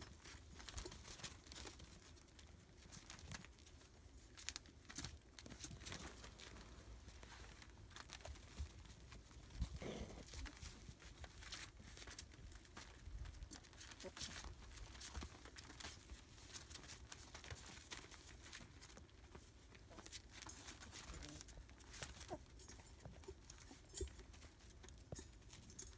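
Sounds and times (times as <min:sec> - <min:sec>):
newspaper rustling and crinkling: 0:00.0 - 0:25.6.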